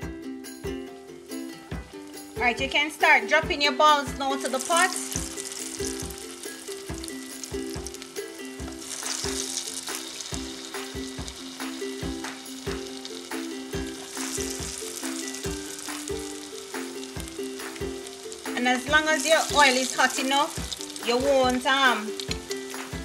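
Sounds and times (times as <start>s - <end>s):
food sizzling in hot oil: 0.5s - 23.0s.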